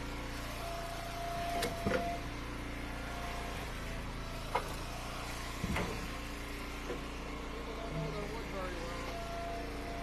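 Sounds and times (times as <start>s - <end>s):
wood splitter engine running: 0.0s - 10.0s.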